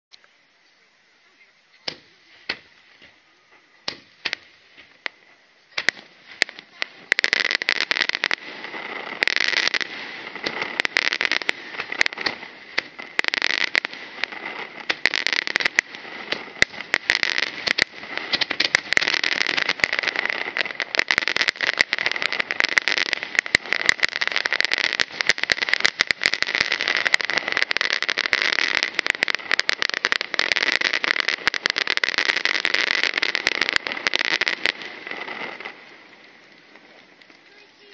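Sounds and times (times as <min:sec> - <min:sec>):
fireworks crackling: 0:00.1 - 0:37.9.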